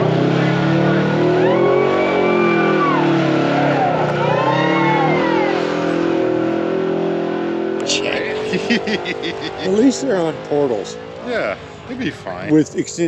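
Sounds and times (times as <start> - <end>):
utv engine revving: 0.0 - 12.6.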